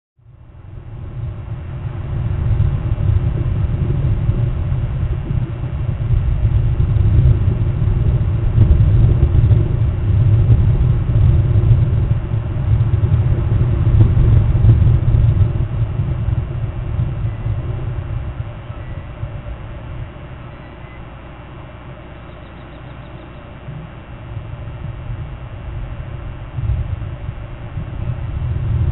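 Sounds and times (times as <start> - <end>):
wind buffeting microphone: 0.2 - 28.9.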